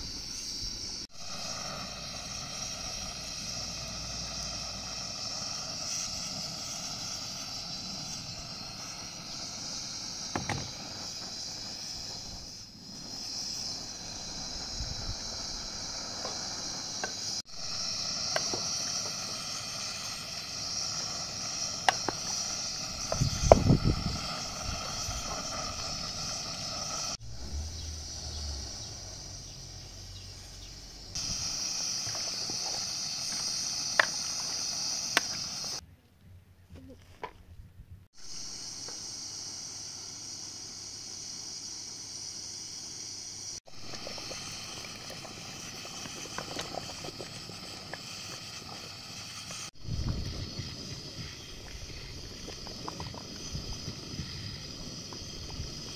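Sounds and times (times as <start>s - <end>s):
steady high-pitched hiss: 0.0s - 35.8s, 38.1s - 55.9s.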